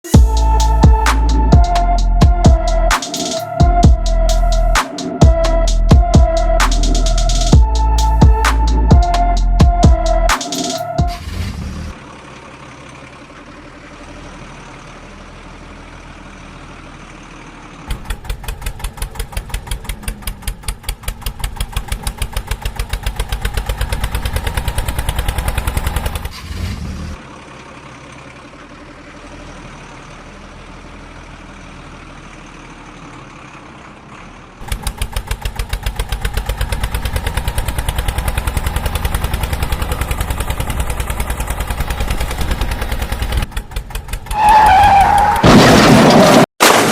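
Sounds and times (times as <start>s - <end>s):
vehicle engine idling and chugging: 0.0s - 45.4s.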